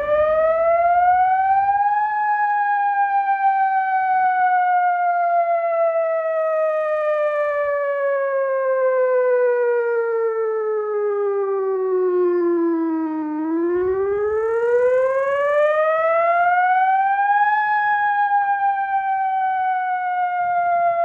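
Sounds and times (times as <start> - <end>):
tornado siren wailing: 0.0 - 21.0.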